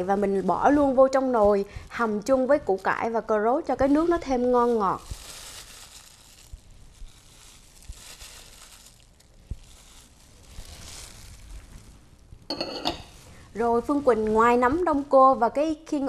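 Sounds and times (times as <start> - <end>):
soft rustle: 0.0 - 16.0.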